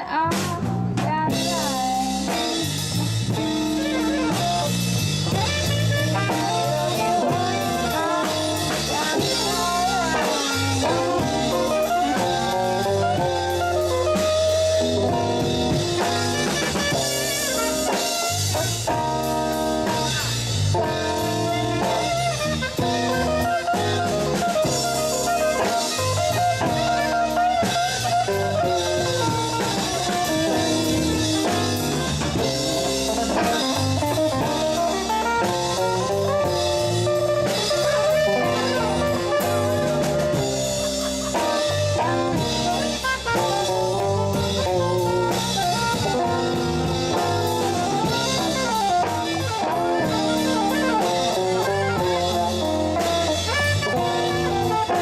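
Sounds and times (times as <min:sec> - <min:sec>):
drum kit beat: 0:00.0 - 0:55.0
electric guitar lead melody: 0:00.0 - 0:55.0
live blues band playing: 0:00.0 - 0:55.0.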